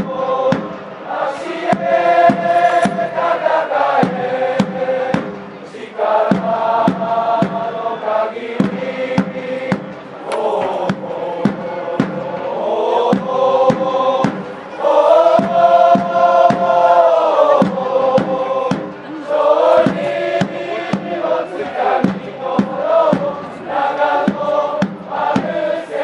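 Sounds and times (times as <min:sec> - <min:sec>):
crowd of fans chanting: 0:00.0 - 0:26.0
steady drum beat: 0:00.0 - 0:26.0.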